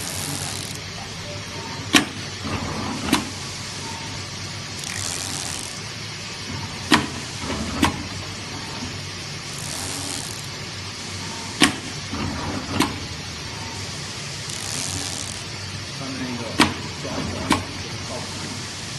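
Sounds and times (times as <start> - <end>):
cutting machine running: 0.0 - 11.5, 12.5 - 18.4.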